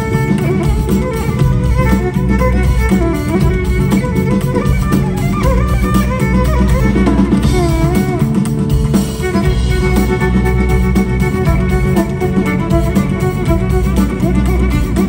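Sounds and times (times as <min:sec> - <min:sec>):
live band music: 0:00.0 - 0:15.0
sliding violin-like melody: 0:00.0 - 0:15.0.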